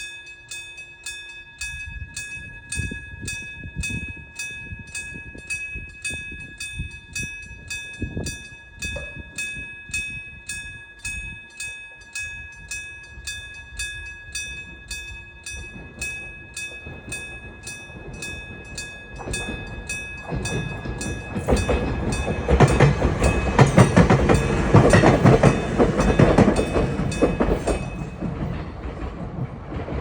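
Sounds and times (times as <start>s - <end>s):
crossing bell gong ringing: 0.0s - 30.0s
train rumbling and thumping: 2.7s - 30.0s.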